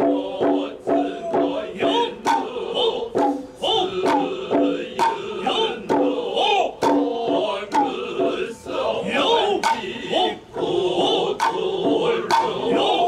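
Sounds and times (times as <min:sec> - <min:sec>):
drum strikes: 0:00.0 - 0:13.0
drummers' drawn-out calls: 0:00.0 - 0:13.0
high wavering flute: 0:00.0 - 0:13.0.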